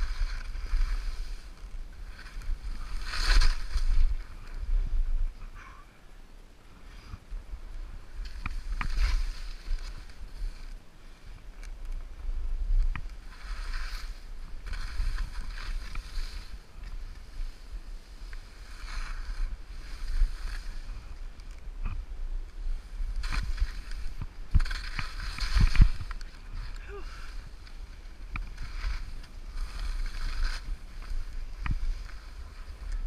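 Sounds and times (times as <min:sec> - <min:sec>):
skis swooshing through snow: 0:00.0 - 0:05.3, 0:07.8 - 0:11.4, 0:12.6 - 0:21.4, 0:22.6 - 0:33.0
steady low rumble: 0:00.0 - 0:33.0.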